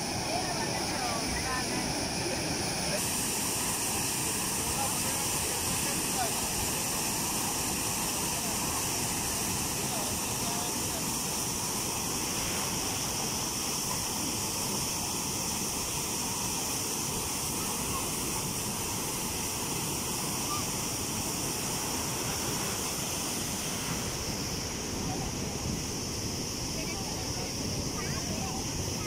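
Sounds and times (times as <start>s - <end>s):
water gushing from a pipe onto sand: 0.0s - 29.0s.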